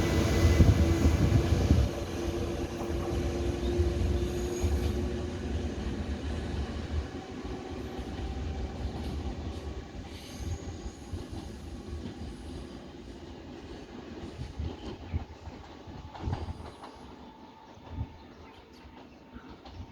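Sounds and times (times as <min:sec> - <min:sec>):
train wheel and track noise: 0:00.0 - 0:19.9.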